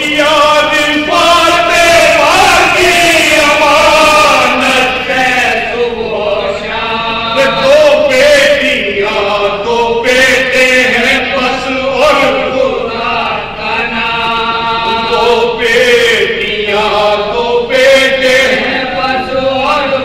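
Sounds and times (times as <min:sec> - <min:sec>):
men chanting an elegy: 0:00.0 - 0:20.0.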